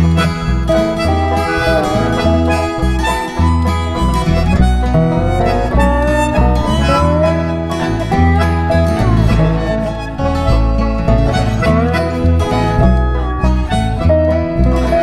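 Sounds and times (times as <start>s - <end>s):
lead melody with bending notes: 0.0s - 15.0s
picked strings: 0.0s - 15.0s
steady bass line: 0.0s - 15.0s.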